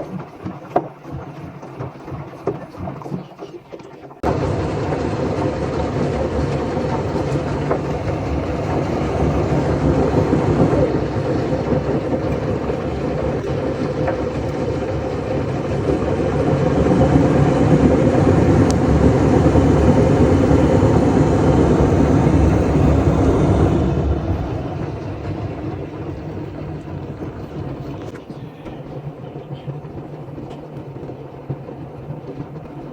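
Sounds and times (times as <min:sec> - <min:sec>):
washing machine drum churning: 0:00.0 - 0:32.9.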